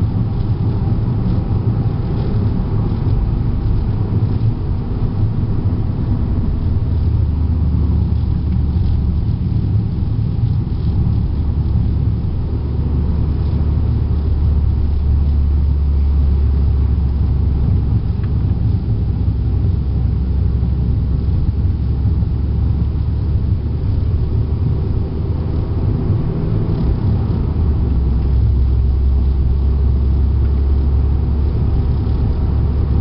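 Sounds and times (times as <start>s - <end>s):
car engine and road noise rumble: 0.0s - 33.0s.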